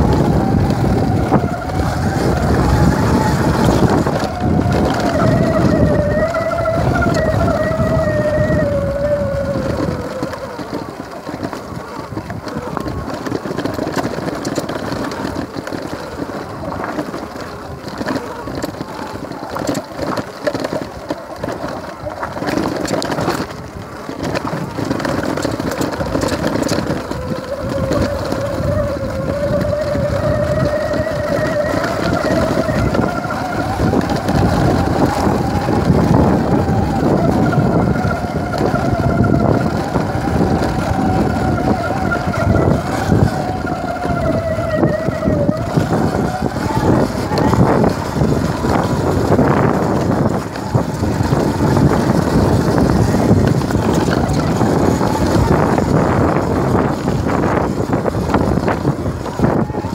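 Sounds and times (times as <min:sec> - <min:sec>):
bike tyres rumbling on gravel: 0:00.0 - 0:59.9
steady whine: 0:00.0 - 0:59.9
wind buffeting microphone: 0:00.0 - 0:59.9.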